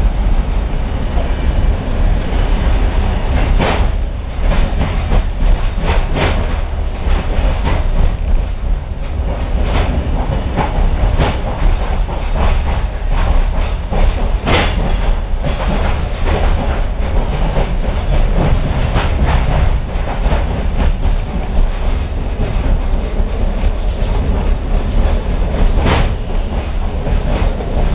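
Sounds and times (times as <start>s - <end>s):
train rumbling on track: 0.0s - 27.9s
wheels clicking over rail joints: 3.3s - 27.9s.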